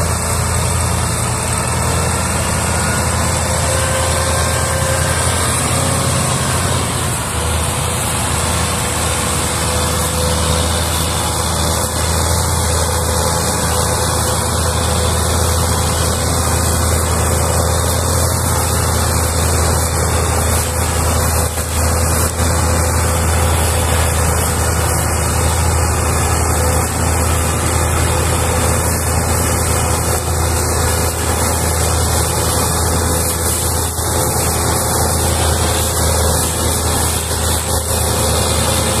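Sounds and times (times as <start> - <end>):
tractor engines droning under load: 0.0 - 39.0.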